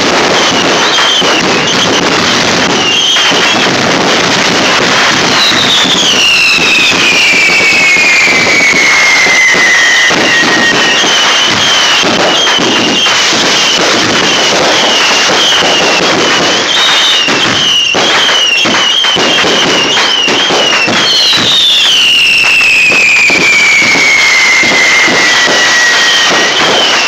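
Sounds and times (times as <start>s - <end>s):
fireworks crackling and popping: 0.0s - 27.0s
whistling fireworks: 0.0s - 27.0s.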